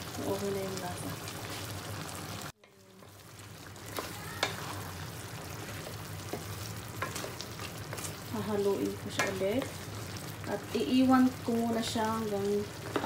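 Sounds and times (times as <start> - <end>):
broth bubbling and sizzling: 0.0 - 13.0.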